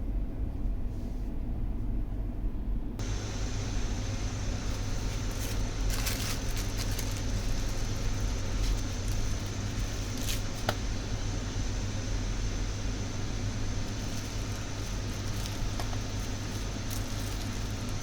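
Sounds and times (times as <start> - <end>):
background hum and hiss: 0.0 - 18.0.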